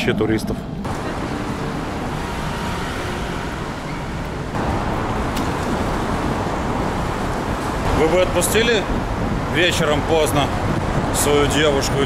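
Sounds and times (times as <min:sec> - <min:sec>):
road traffic passing: 0:00.6 - 0:12.0.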